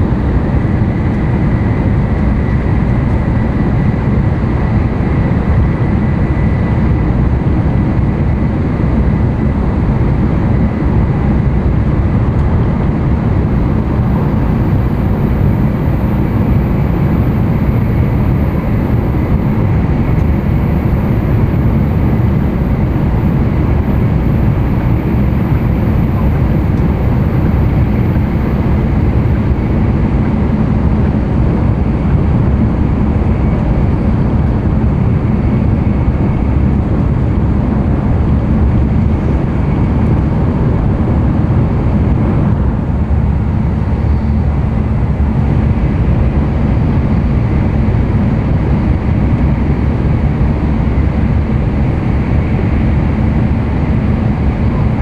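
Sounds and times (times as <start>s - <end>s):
train wheels rumbling on rail: 0.0s - 55.0s
air rushing past train: 5.0s - 55.0s.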